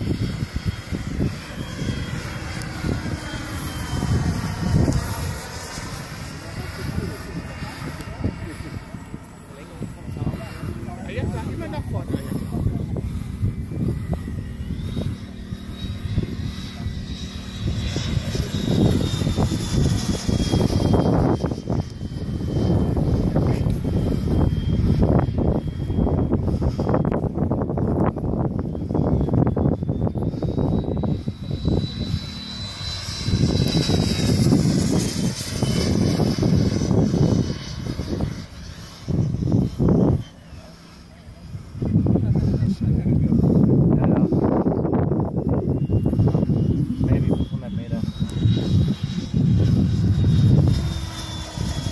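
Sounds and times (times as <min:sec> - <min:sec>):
jet engine whining overhead: 0:00.0 - 0:51.9.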